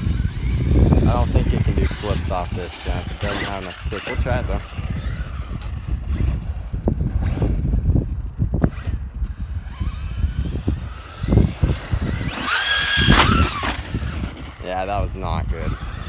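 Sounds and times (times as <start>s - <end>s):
electric motor whine: 0.0s - 16.0s
toy truck running over rough ground: 0.0s - 16.0s
wind on microphone: 0.0s - 16.0s.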